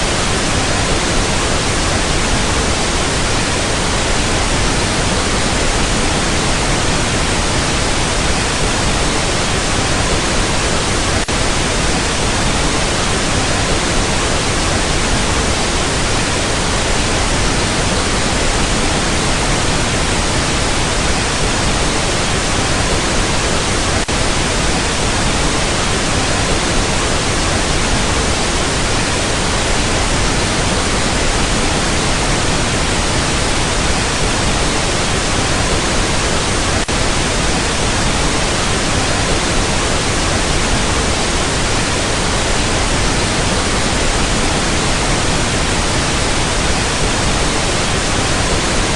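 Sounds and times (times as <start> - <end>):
loud static hiss: 0.0 - 48.9.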